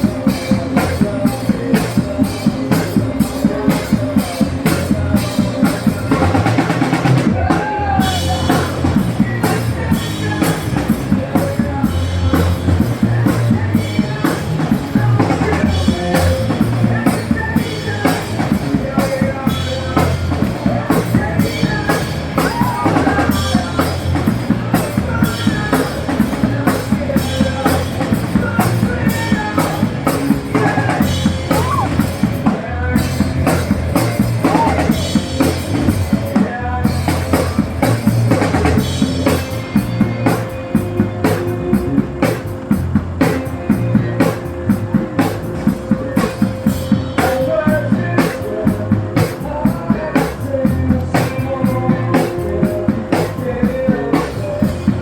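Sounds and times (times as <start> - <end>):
instrumental rock music: 0.0 - 55.0.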